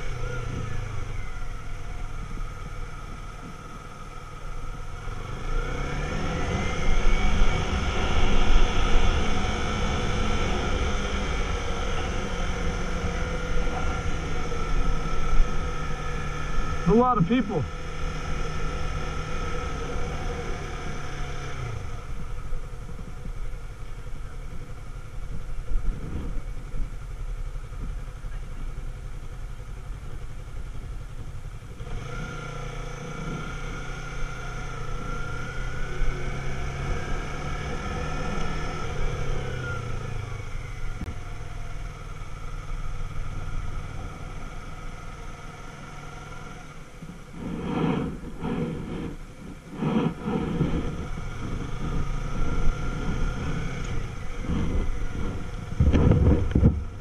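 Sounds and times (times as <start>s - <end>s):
low traffic rumble: 0.0s - 57.0s
motorcycle engine at low speed: 0.0s - 57.0s.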